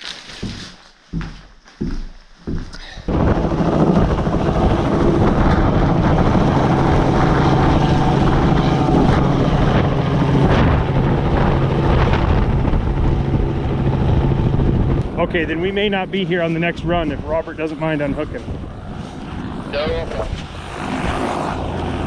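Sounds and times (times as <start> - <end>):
helicopter rotor and engine: 3.1 - 22.0.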